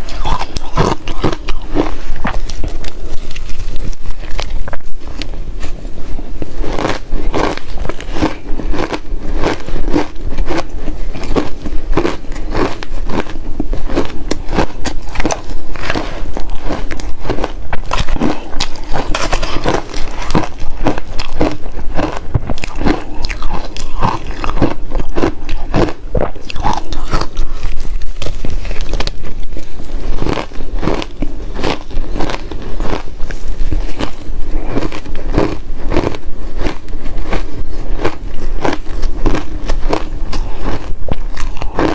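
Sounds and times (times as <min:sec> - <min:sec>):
ice crunching between teeth: 0:00.0 - 0:05.8, 0:06.4 - 0:41.9.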